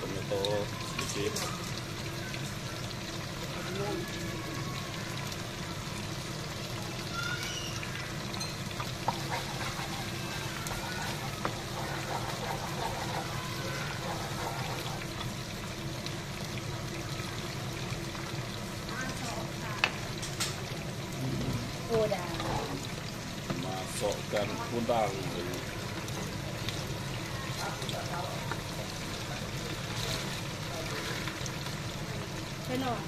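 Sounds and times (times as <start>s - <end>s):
sauce simmering and bubbling: 0.0s - 33.0s.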